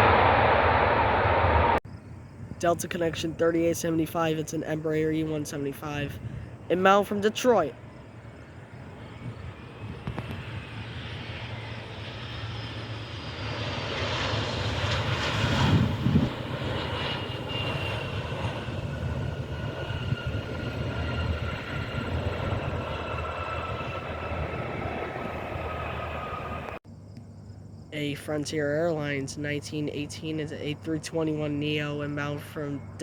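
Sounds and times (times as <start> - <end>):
jet engines passing by: 0.0 - 26.8
high jet engine whine: 0.0 - 33.0.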